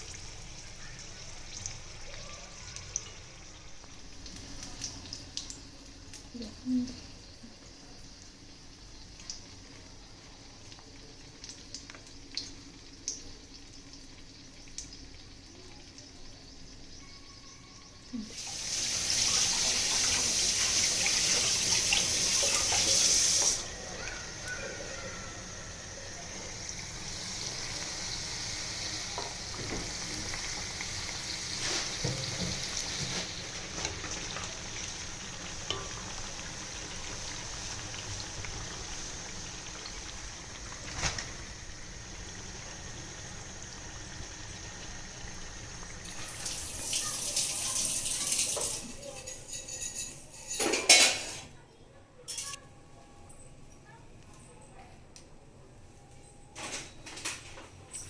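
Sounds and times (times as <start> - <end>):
food deep-frying in hot oil: 0.0 - 51.5.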